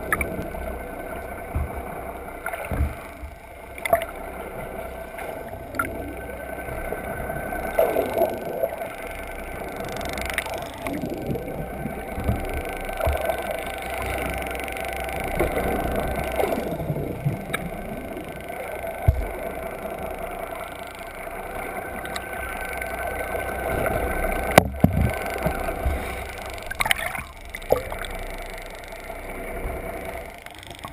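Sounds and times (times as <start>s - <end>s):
boat motor droning underwater: 0.0s - 30.9s.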